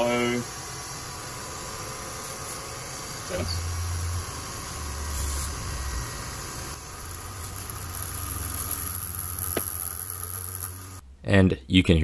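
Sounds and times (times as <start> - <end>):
mill spindle cutting whine: 0.0 - 11.0.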